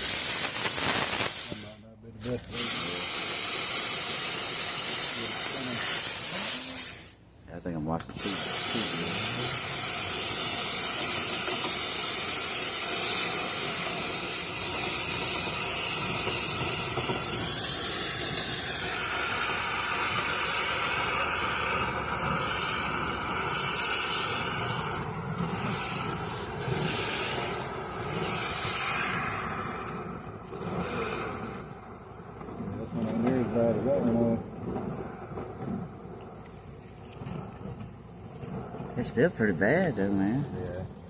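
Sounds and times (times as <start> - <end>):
air rushing through vent duct: 0.0 - 41.0.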